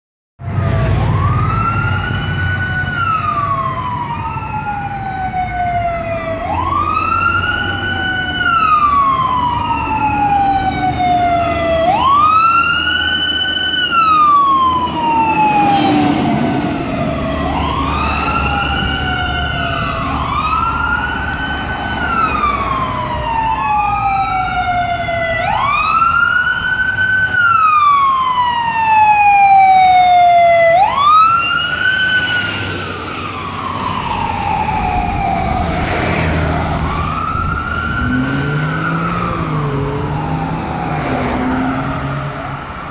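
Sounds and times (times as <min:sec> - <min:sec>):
sirens wailing: 0:00.4 - 0:42.9.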